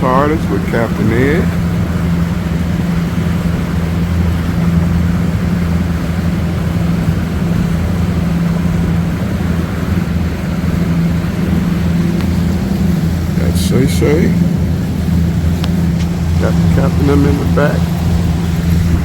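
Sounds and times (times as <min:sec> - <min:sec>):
boat engine running: 0:00.0 - 0:19.0
wind and water rushing: 0:00.0 - 0:19.0.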